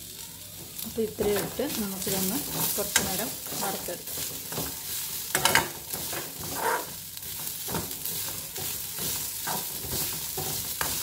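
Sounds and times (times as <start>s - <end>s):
light sizzle: 0.0s - 11.0s
metal spoon scraping pan: 1.2s - 11.0s.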